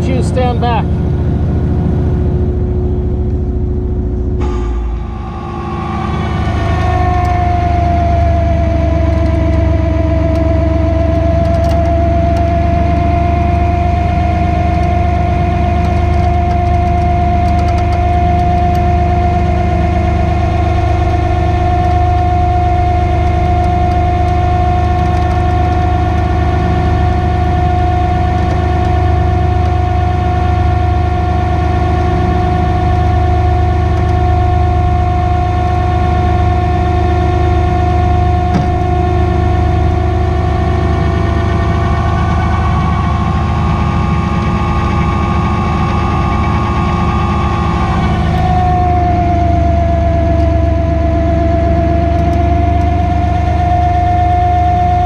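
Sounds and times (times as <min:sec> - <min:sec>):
truck engine humming: 0:00.0 - 0:55.0
winch mechanical whine: 0:00.0 - 0:55.0.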